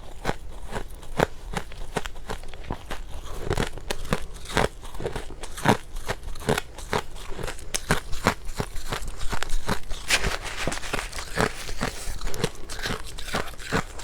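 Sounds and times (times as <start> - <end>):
chewing crunchy frost: 0.0 - 14.0.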